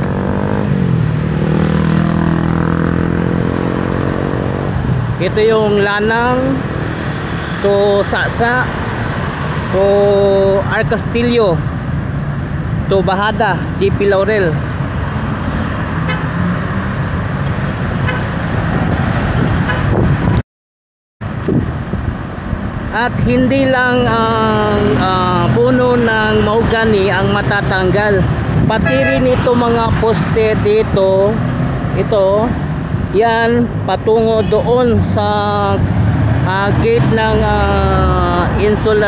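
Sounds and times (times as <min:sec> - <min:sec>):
road noise: 0:00.0 - 0:20.4, 0:21.2 - 0:39.0.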